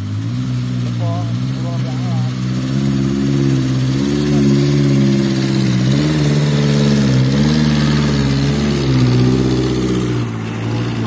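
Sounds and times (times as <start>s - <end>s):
truck diesel engine under load: 0.0s - 11.0s.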